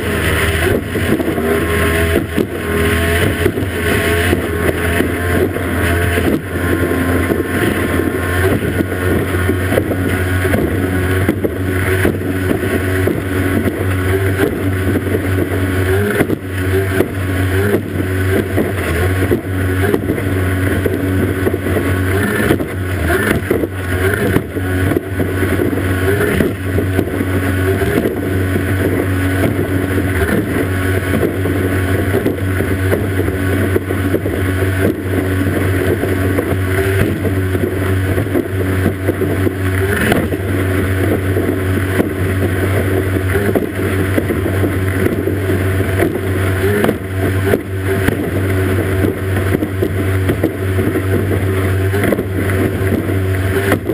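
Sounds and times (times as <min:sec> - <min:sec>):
outboard engine at high speed: 0:00.0 - 0:53.9
rush of spray and water: 0:00.0 - 0:53.9.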